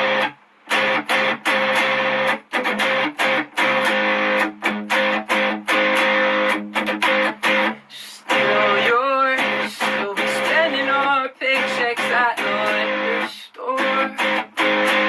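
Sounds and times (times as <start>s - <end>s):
guitar strummed in choppy rhythm: 0.0s - 15.0s.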